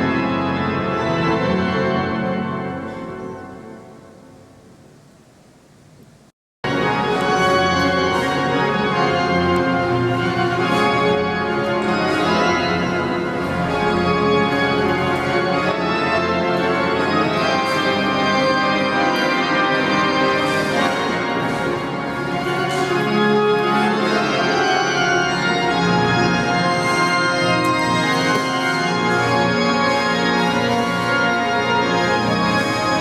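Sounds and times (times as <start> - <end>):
church organ chords: 0.0 - 5.6, 6.6 - 33.0.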